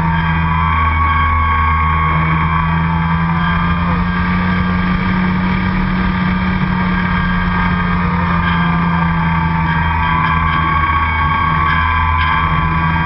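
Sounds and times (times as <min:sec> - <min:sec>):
model airplane motor droning: 0:00.0 - 0:13.0.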